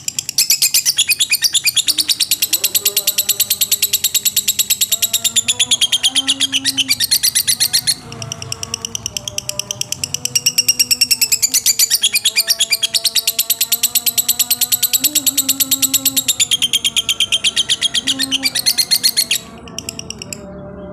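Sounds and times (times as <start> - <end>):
bird chattering trill: 0.0 - 20.5.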